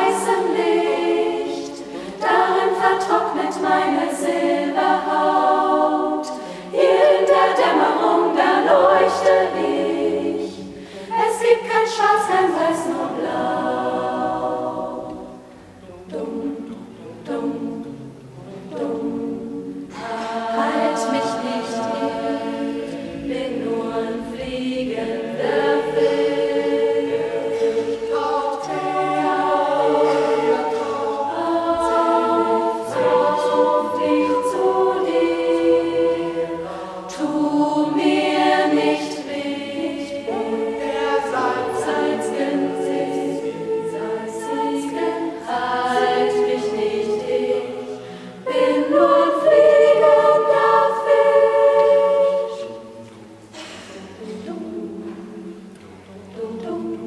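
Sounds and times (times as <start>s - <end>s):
mixed choir singing in harmony: 0.0s - 57.0s.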